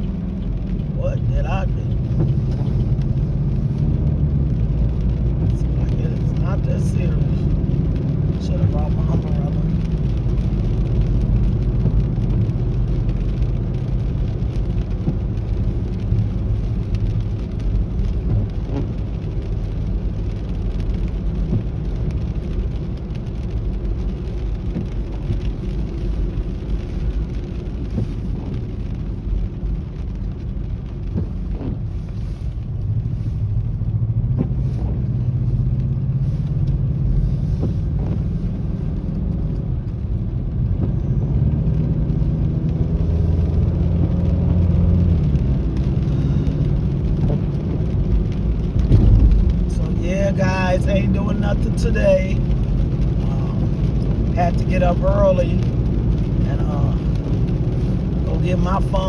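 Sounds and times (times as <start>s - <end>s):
car cabin engine and tyre rumble: 0.0s - 59.0s.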